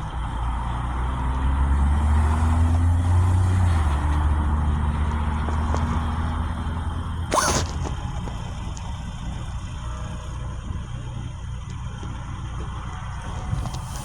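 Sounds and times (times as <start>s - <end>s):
vehicle engine rumble passing: 0.0s - 14.0s.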